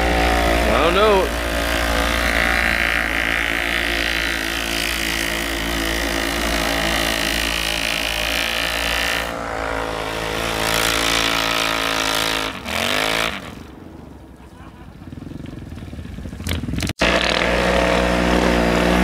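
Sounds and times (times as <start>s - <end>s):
off-road vehicle engines revving high: 0.0s - 19.0s.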